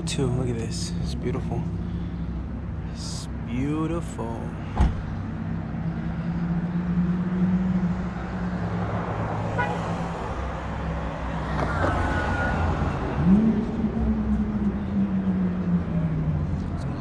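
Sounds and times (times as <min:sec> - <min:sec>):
traffic noise: 0:00.0 - 0:17.0.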